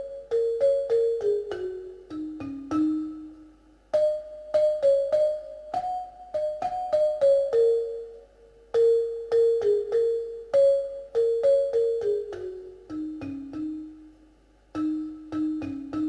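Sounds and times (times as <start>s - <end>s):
slow melody of struck notes: 0.0s - 16.0s.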